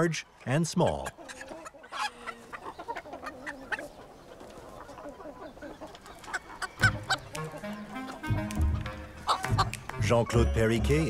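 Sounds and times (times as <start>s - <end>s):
chickens clucking softly: 0.0s - 8.2s, 9.2s - 10.4s.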